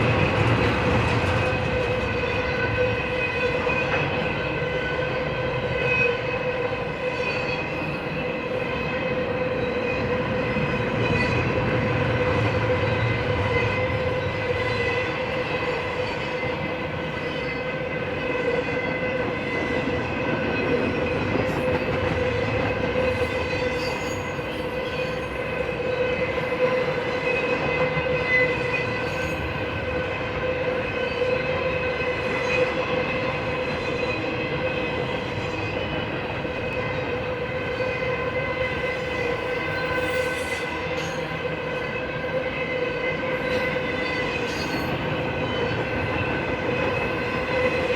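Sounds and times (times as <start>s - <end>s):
freight train rumble: 0.0s - 47.9s
wheels ringing on rails: 0.0s - 47.9s.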